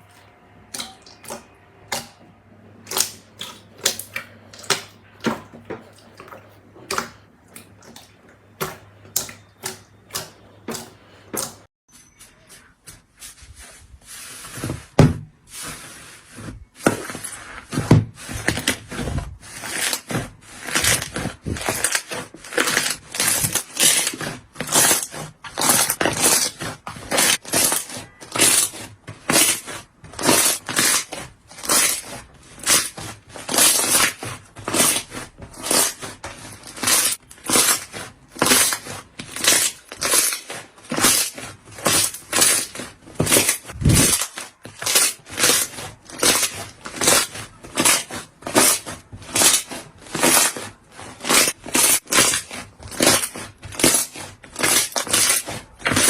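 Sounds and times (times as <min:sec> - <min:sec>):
slime squeezed wet crackling: 0:00.0 - 0:02.2, 0:02.8 - 0:11.7, 0:17.2 - 0:56.0.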